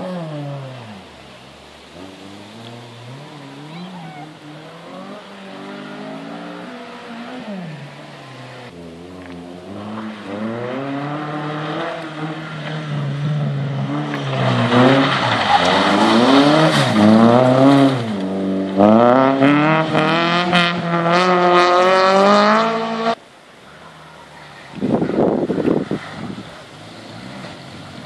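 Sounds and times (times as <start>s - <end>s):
rally car engine revving: 0.0s - 23.2s, 23.8s - 28.0s.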